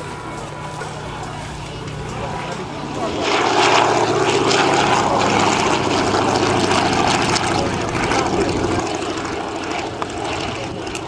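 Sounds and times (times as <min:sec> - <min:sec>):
airplane engine droning: 0:00.0 - 0:11.0.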